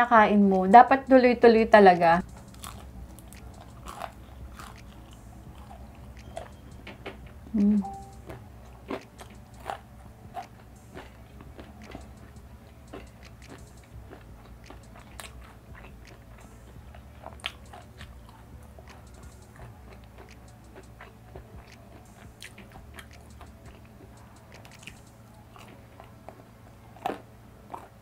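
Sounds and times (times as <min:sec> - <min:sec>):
chewing and crunchy bites: 0:02.5 - 0:06.6, 0:08.3 - 0:28.0.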